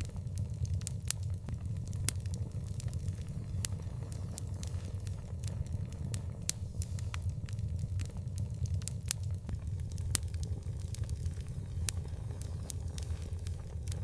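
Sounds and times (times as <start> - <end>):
fire low rumble: 0.0 - 14.0
wood fire popping and snapping: 0.0 - 14.0.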